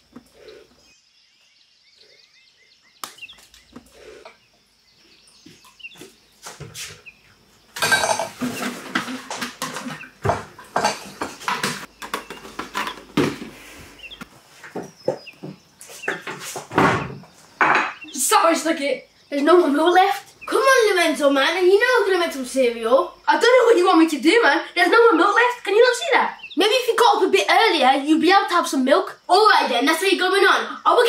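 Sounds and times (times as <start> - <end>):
bird chirps: 0.0 - 24.1, 24.8 - 27.3.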